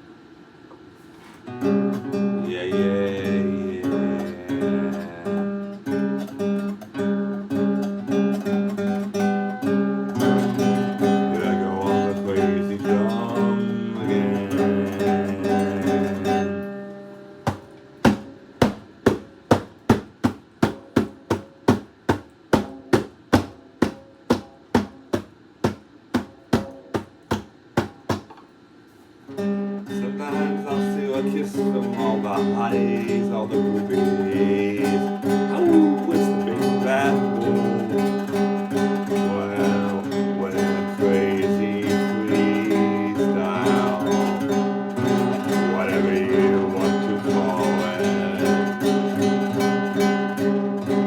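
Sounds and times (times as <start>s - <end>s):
blues acoustic guitar: 1.0s - 51.0s.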